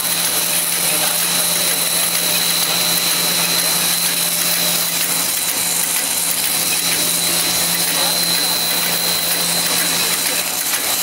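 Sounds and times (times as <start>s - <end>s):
high machine whine: 0.0s - 11.0s
low machine hum: 0.0s - 11.0s
machine din: 0.0s - 11.0s.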